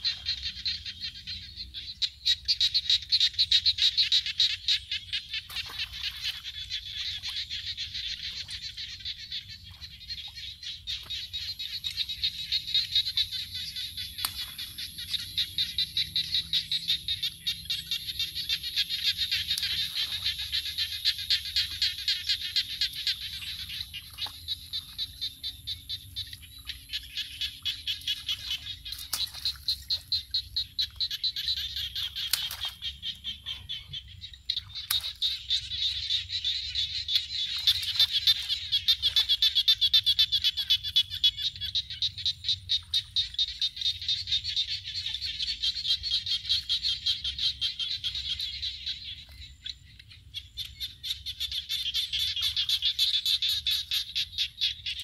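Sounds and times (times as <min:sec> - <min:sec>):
frogs calling in chorus: 0:00.0 - 0:55.0.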